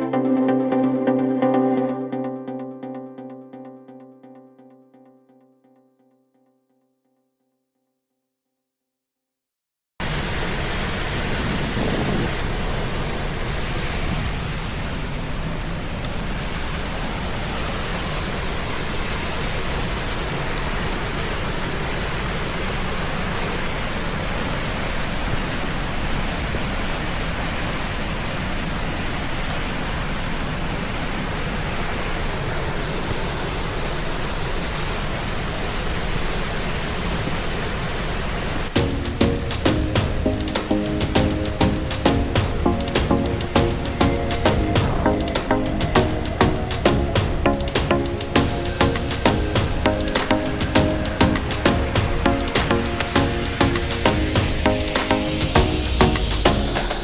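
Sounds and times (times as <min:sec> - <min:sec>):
waterfall roaring: 0:10.0 - 0:57.0.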